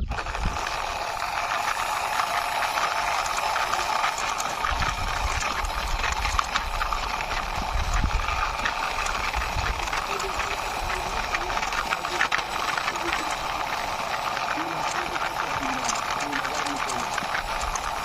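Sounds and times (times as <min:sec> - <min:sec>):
toy wheels scraping along wall: 0:00.0 - 0:18.0.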